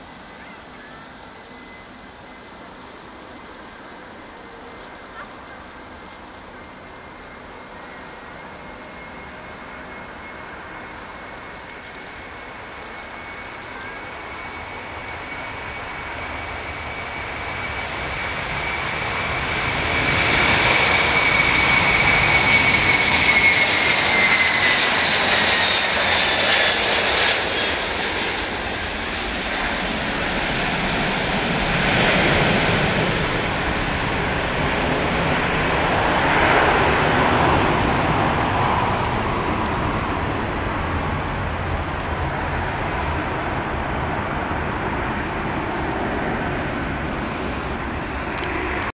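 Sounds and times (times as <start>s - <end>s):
high engine whine: 0.0s - 48.9s
jet engines at takeoff: 0.0s - 48.9s.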